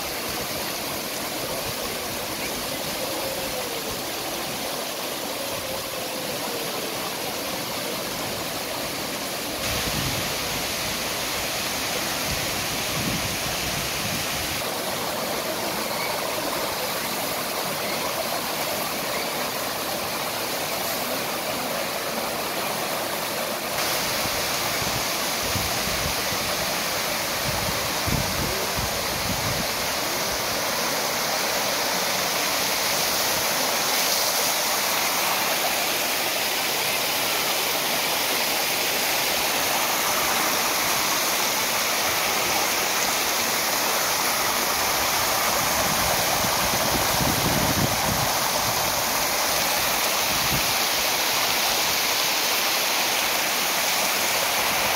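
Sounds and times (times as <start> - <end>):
water rushing and splashing: 0.0 - 54.9.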